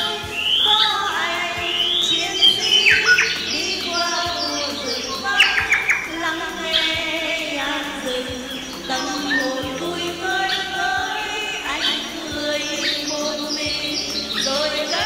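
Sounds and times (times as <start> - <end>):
bird chirps: 0.0 - 15.0
melodic background music: 0.0 - 15.0.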